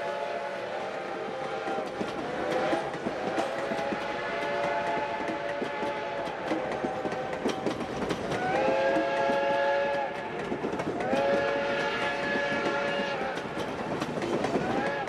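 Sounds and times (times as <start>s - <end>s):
train wheels clicking on rails: 0.0s - 15.0s.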